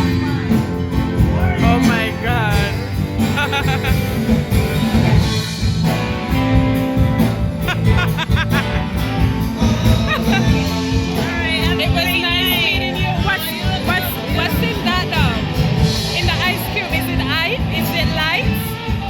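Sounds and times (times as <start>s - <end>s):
song with beat and bass: 0.0s - 19.0s.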